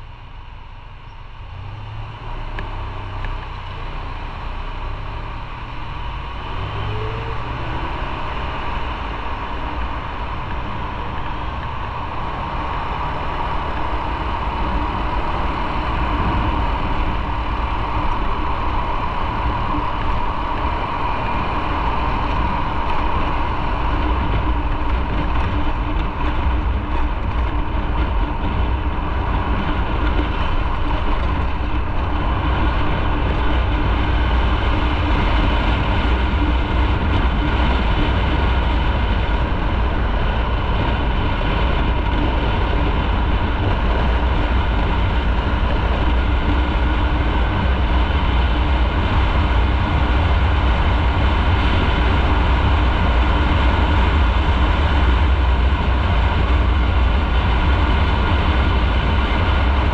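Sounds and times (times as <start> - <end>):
motorcycle engine: 0.0 - 59.9
wind noise: 0.0 - 59.9.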